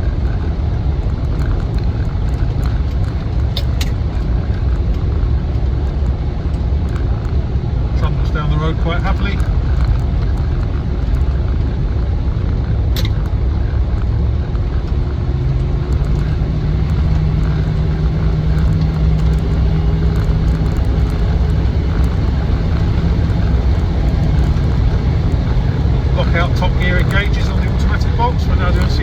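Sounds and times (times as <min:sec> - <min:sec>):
steady hum: 0:00.0 - 0:12.5, 0:13.7 - 0:29.0
car engine and road rumble: 0:00.0 - 0:29.0.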